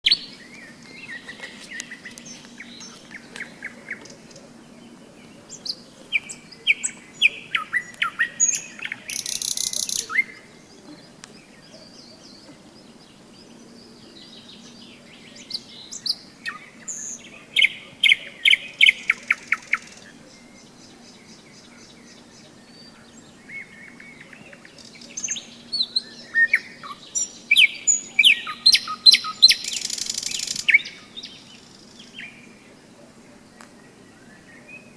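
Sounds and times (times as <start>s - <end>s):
nightingale singing: 0.0s - 34.9s
quiet bird chirps: 0.0s - 34.9s.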